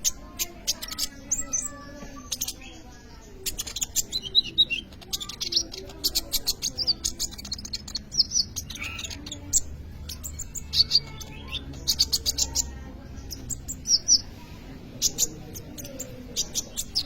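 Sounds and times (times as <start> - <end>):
sunbird singing: 0.0 - 17.0.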